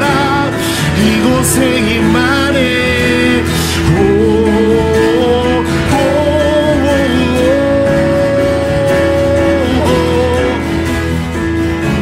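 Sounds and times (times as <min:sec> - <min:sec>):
acoustic guitar: 0:00.0 - 0:12.0
man singing: 0:00.0 - 0:12.0
piano: 0:00.0 - 0:12.0.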